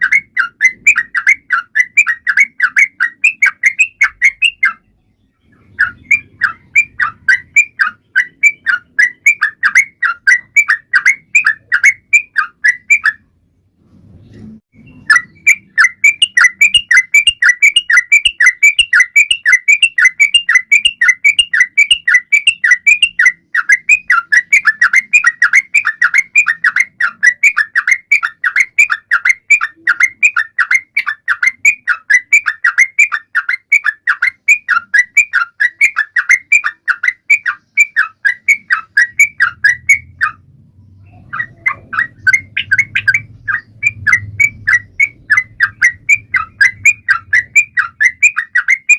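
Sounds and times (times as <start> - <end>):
songbird repeated bright notes: 0.0 - 13.4, 14.2 - 48.9.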